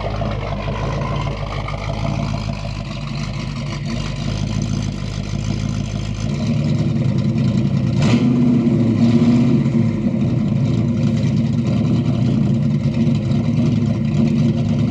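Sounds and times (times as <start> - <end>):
pickup truck engine running: 0.0 - 14.9.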